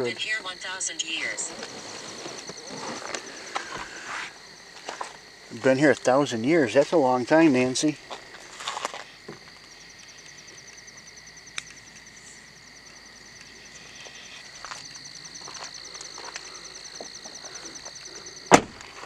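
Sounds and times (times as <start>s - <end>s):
insect pulsing trill: 0.0s - 18.5s
high insect drone: 0.0s - 19.0s.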